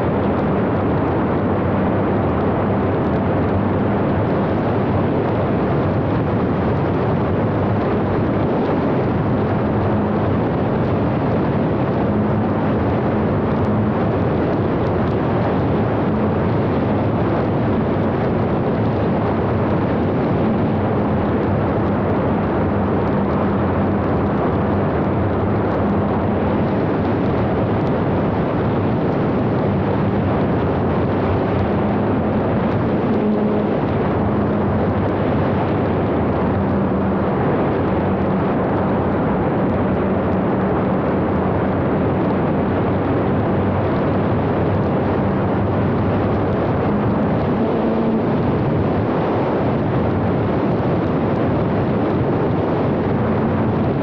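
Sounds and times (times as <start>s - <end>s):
airflow and propeller noise: 0.0s - 54.0s
low steady hum: 0.0s - 54.0s.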